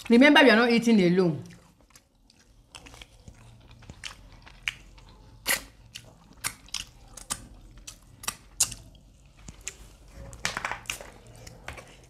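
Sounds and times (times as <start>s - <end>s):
person chewing food: 1.4s - 12.0s.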